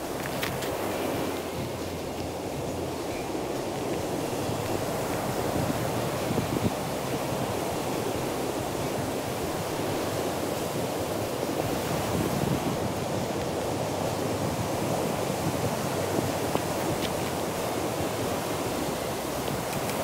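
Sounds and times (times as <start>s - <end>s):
sea surf breaking on beach: 0.0s - 20.0s
wind buffeting microphone: 0.0s - 20.0s.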